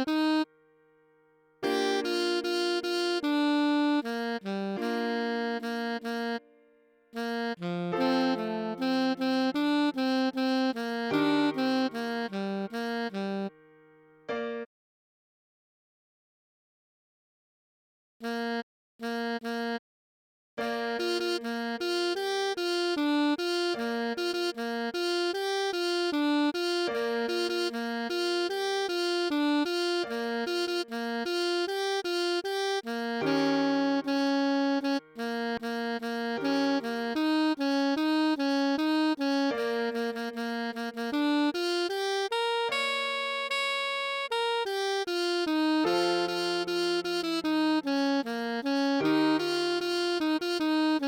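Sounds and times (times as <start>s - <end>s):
alto saxophone melody: 0.0s - 0.5s, 1.6s - 14.5s, 18.2s - 19.8s, 20.6s - 51.0s.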